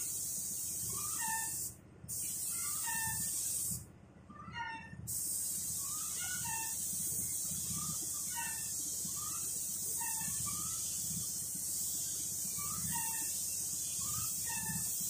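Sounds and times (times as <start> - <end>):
spray gun hissing: 0.0 - 3.8, 5.1 - 15.0.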